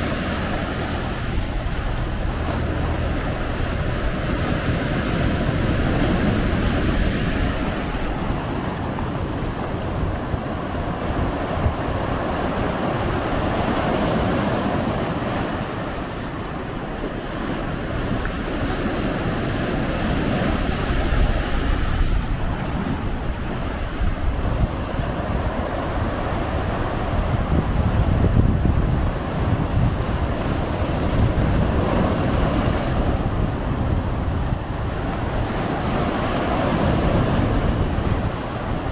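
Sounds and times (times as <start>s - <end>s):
ocean surf washing over rock: 0.0s - 38.9s
wind buffeting microphone: 0.0s - 38.9s.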